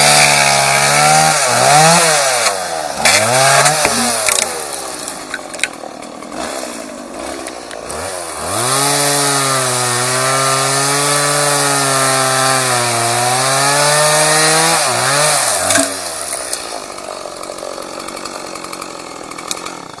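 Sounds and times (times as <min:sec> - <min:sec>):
chainsaw engine idling and revving: 0:00.0 - 0:20.0.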